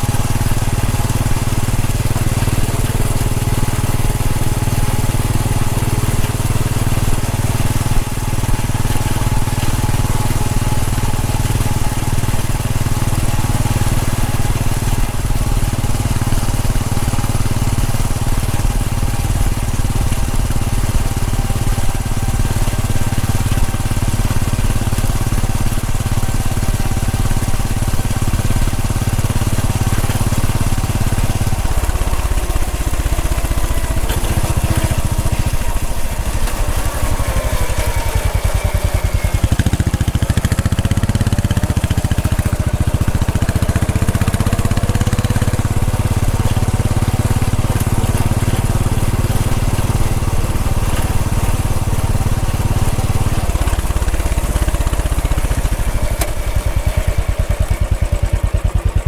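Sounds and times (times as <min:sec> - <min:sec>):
motorcycle engine thumping: 0:00.0 - 0:59.0.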